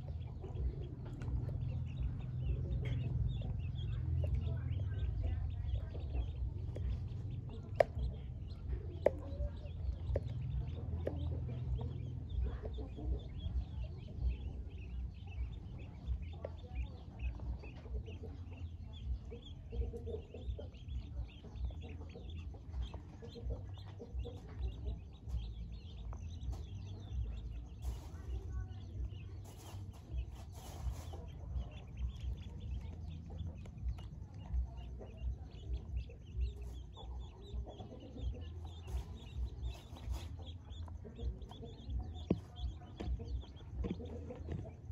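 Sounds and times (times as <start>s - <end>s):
ducklings peeping: 0.0s - 44.9s
low rumble: 0.0s - 44.9s.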